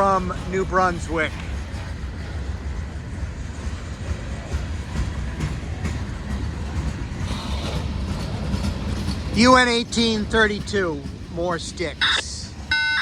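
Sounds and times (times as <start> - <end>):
train wheels rumbling on rail: 0.0 - 13.0
wheels clicking on track: 0.0 - 13.0.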